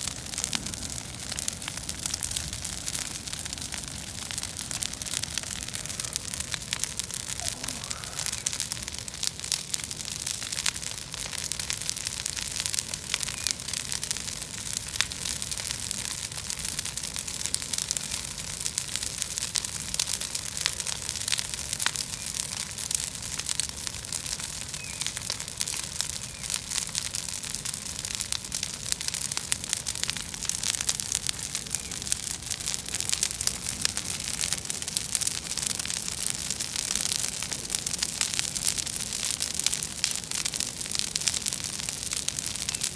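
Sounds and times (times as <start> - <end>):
bonfire crackling and popping: 0.0 - 42.9
low rumble of fire: 0.0 - 42.9.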